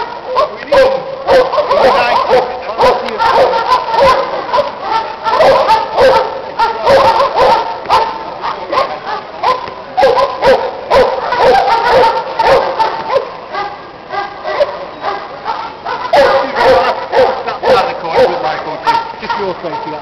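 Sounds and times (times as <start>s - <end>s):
dog barking: 0.1s - 20.0s.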